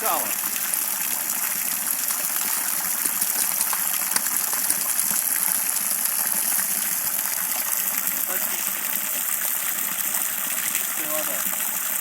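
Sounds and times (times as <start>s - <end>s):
spring water gushing: 0.0s - 12.0s.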